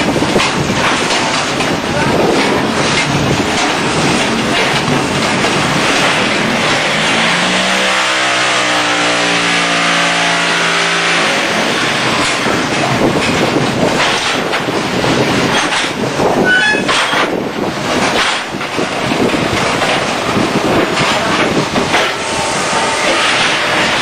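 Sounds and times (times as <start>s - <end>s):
machinery clattering and rumbling: 0.0s - 24.0s.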